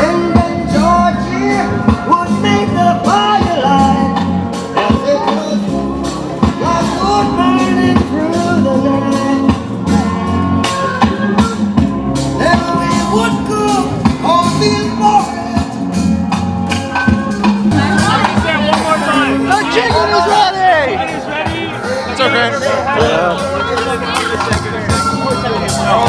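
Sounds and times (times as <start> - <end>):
rock music with vocals: 0.0 - 26.0.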